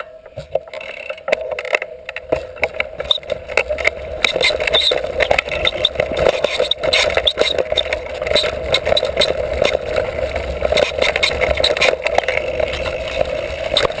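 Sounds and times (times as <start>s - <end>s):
bike rattling over bumps: 0.0s - 14.0s
bike tyres on dirt trail: 0.0s - 14.0s.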